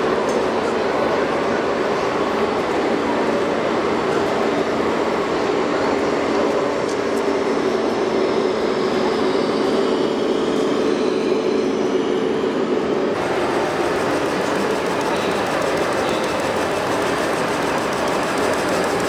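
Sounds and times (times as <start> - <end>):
low engine-like drone: 0.0 - 19.0.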